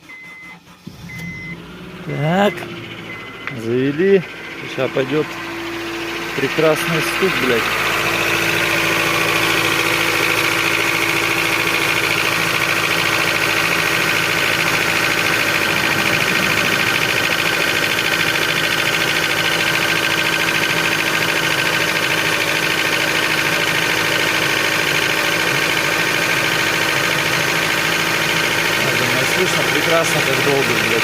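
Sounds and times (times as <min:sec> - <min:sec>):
car engine idling: 0:00.0 - 0:31.0
fast engine knocking: 0:04.4 - 0:31.0.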